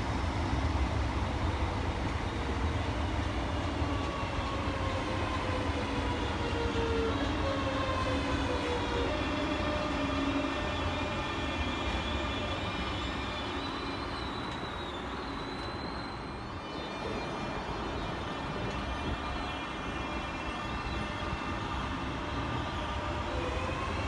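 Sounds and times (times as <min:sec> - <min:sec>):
wheels rumbling on rail: 0:00.0 - 0:24.0
electric train traction whine: 0:00.2 - 0:24.0.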